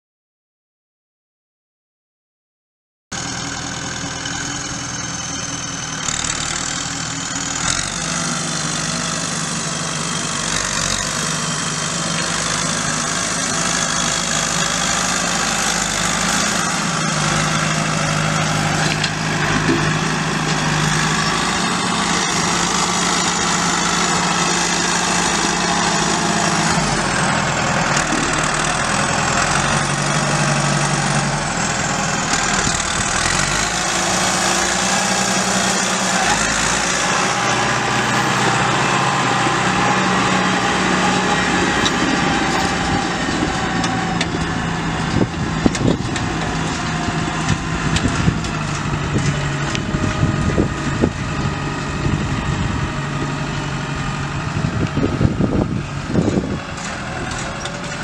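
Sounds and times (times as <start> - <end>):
tractor diesel engine running: 3.2 - 58.0.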